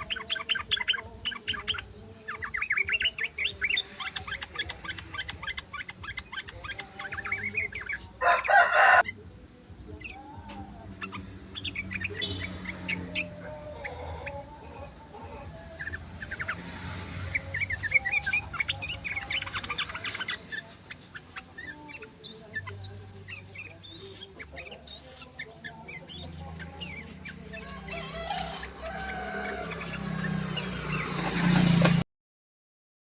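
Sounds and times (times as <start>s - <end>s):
bulbuls chattering and calling: 0.0s - 32.0s.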